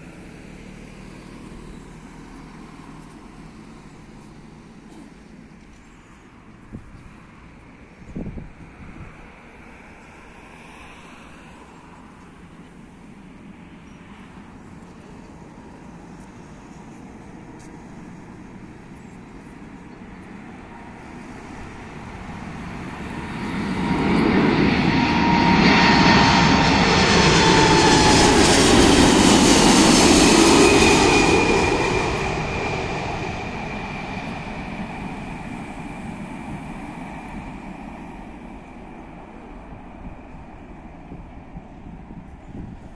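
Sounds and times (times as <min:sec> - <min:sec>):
jet engines passing overhead: 0:00.0 - 0:42.9.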